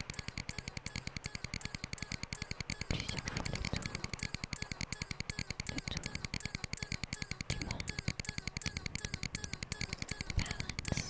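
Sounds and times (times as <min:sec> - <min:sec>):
glitchy electronic music: 0:00.0 - 0:11.0.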